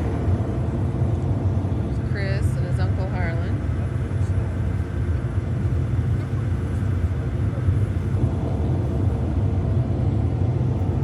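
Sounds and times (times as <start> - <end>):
combine harvester drone: 0.0 - 11.0.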